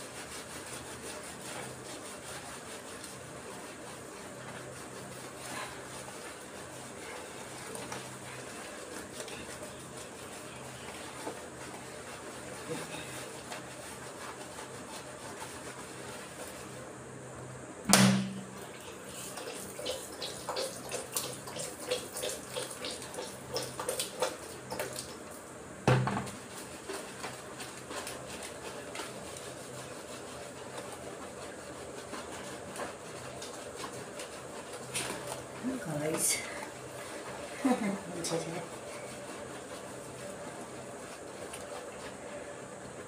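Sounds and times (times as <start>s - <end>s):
hand rubbing lather into wet fur: 0.0s - 17.0s, 18.5s - 25.5s, 26.3s - 43.0s.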